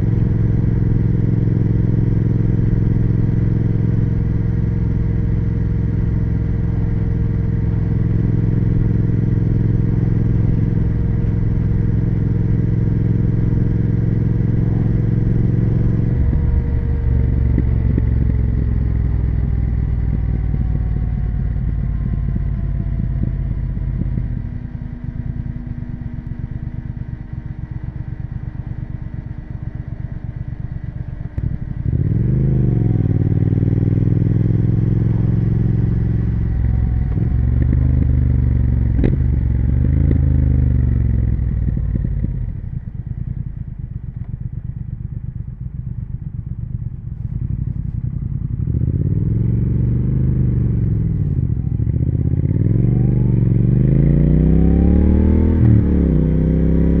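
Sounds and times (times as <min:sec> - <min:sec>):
motorcycle engine and exhaust: 0:00.0 - 0:57.0.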